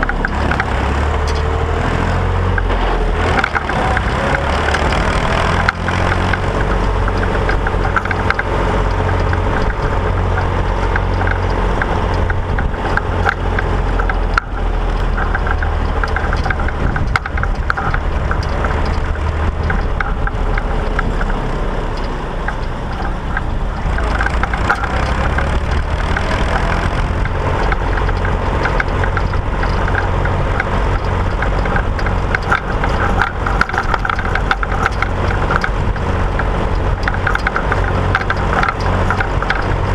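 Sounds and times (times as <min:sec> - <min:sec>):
clattering rattle: 0:00.0 - 0:39.9
tractor engine drone: 0:00.0 - 0:39.9.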